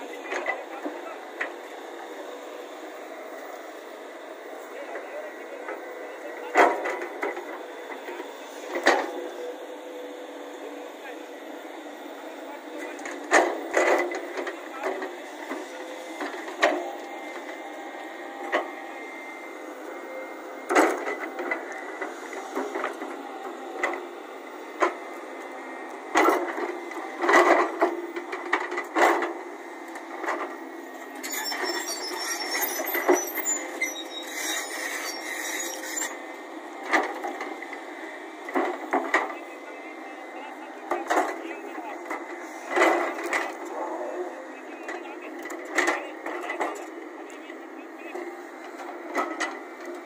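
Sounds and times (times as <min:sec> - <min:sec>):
excavator running with high whine: 0:00.0 - 0:50.0.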